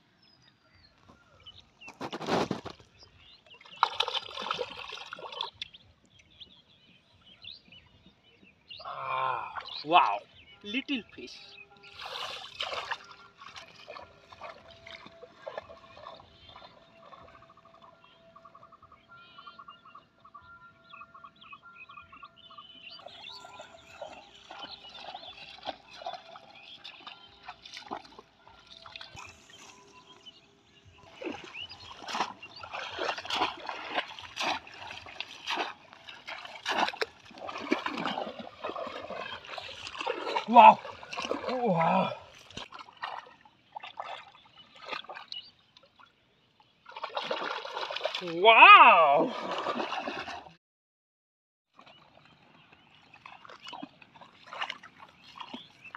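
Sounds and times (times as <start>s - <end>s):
water sloshing and splashing: 1.0s - 6.4s, 9.3s - 18.9s, 22.0s - 50.6s, 51.7s - 55.9s.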